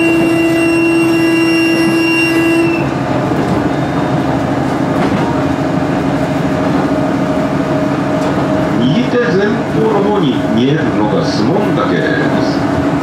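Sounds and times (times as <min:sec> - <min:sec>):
railcar mechanical whine: 0:00.0 - 0:13.0
rumble of running train: 0:00.0 - 0:13.0.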